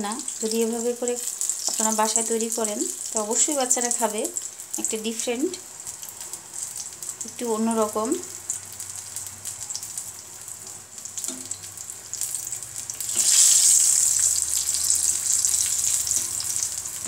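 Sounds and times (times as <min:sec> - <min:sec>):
oil sizzling in pan: 0:00.0 - 0:17.0.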